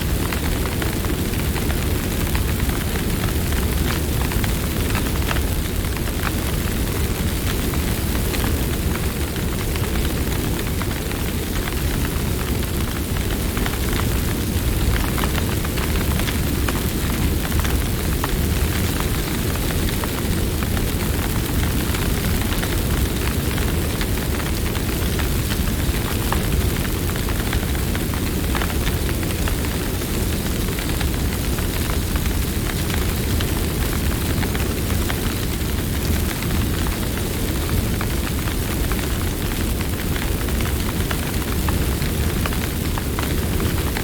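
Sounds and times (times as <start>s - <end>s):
burning wood crackling: 0.0s - 44.0s
campfire flame rushing: 0.1s - 44.0s.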